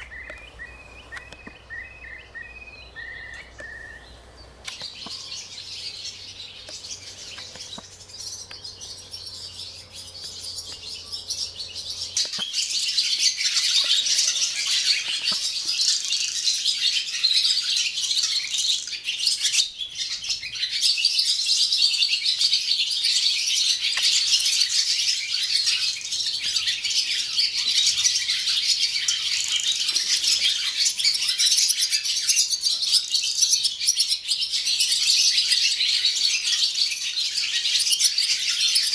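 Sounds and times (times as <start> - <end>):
swallows twittering: 0.0 - 38.9.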